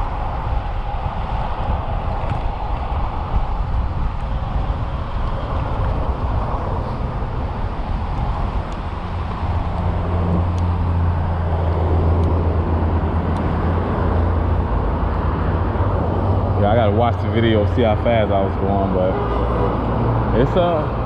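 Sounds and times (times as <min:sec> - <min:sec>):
road noise: 0:00.0 - 0:21.0
rushing wind: 0:00.0 - 0:21.0.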